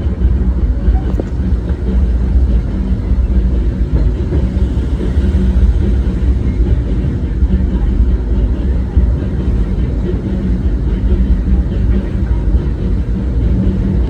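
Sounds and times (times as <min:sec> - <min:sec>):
train car rumbling on track: 0:00.0 - 0:14.0.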